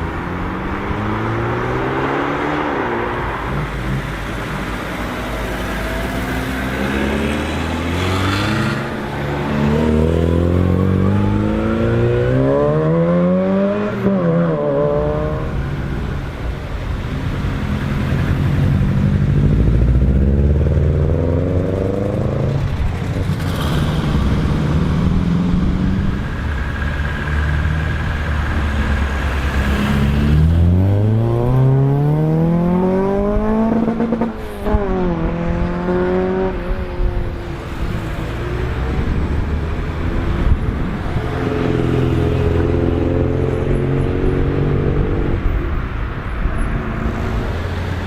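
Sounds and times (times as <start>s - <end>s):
car engines accelerating: 0.0s - 48.0s.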